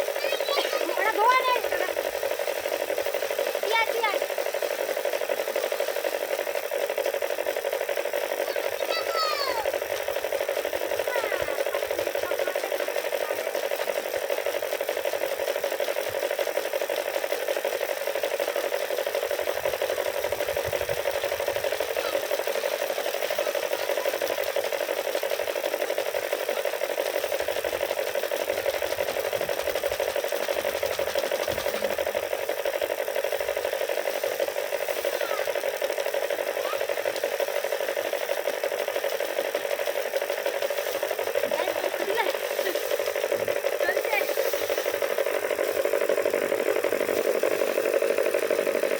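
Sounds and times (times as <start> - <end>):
threshing machine whirring: 0.0 - 48.9.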